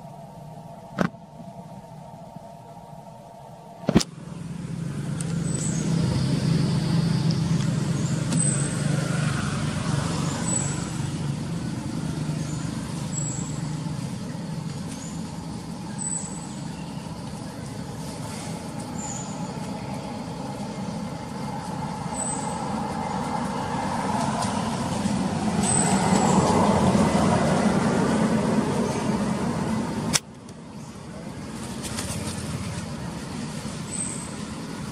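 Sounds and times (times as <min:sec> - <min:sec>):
motor vehicle engine running: 0:03.8 - 0:34.9.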